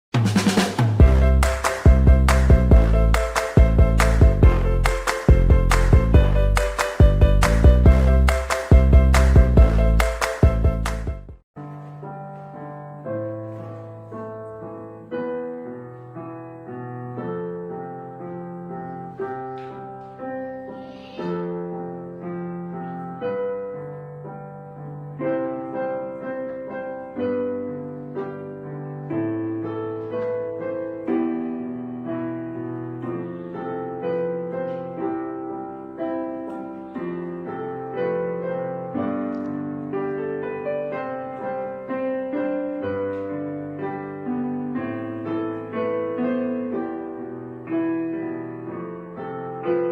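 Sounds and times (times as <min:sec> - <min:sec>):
slow piano music: 0:01.0 - 0:49.9.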